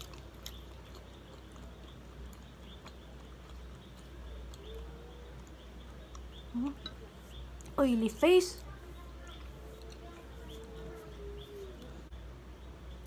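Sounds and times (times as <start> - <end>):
faint chewing: 0.0 - 12.1
low steady hum: 0.0 - 13.0.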